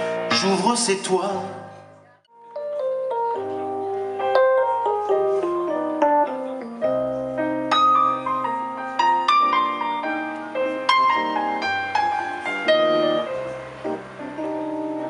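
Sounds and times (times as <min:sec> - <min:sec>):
electric piano playing chords: 0:00.0 - 0:15.0.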